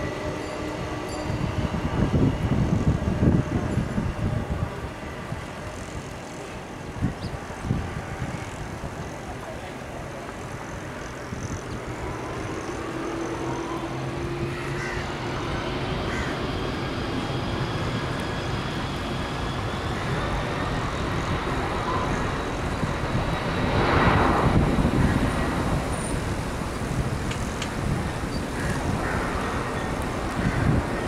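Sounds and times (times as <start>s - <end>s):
jet engine roar with whine: 0.0s - 31.0s.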